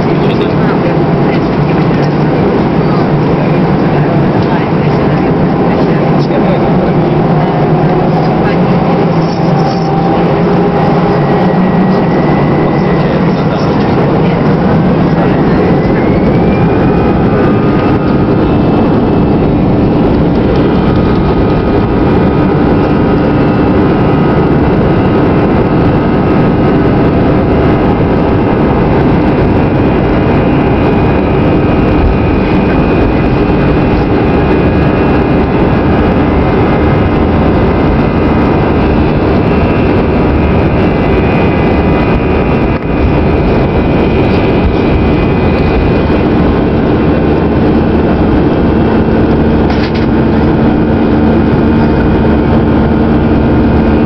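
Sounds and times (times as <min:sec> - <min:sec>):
jet engine high whine: 0:00.0 - 0:54.0
jet engines rumbling: 0:00.0 - 0:54.0.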